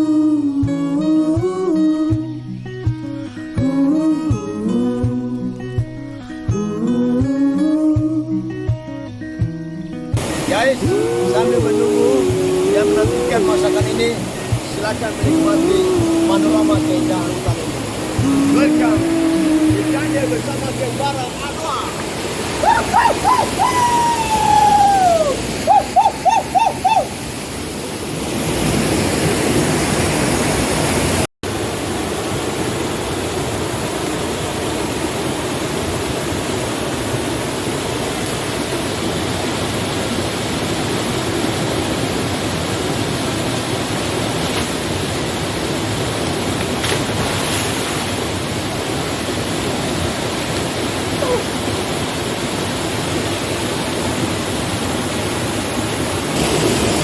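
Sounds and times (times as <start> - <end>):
waterfall roaring: 10.2 - 57.0.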